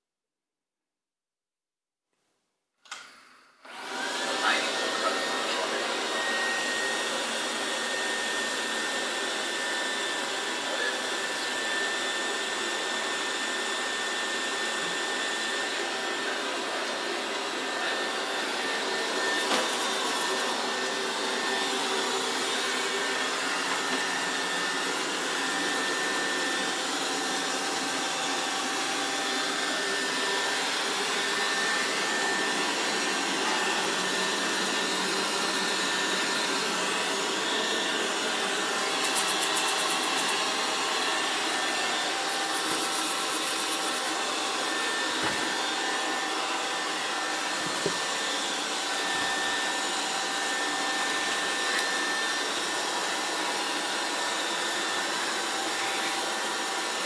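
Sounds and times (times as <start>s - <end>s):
robot vacuum whirring: 2.9s - 57.0s.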